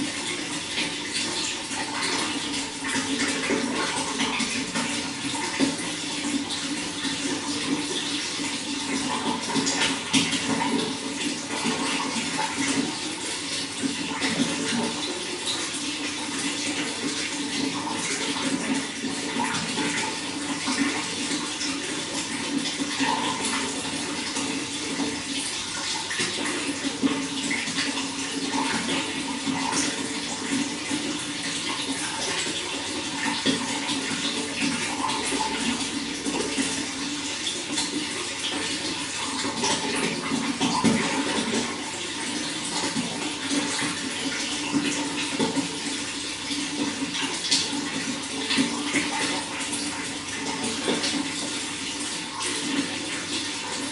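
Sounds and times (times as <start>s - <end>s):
running water with splashes: 0.0s - 53.9s.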